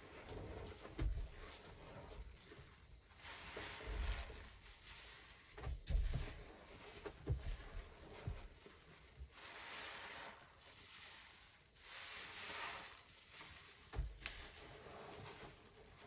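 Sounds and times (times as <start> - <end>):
wet sponge squishing: 0.0 - 16.0.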